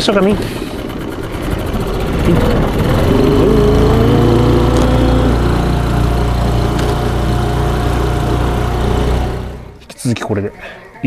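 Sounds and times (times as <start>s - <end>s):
outboard motor running: 0.3s - 9.8s.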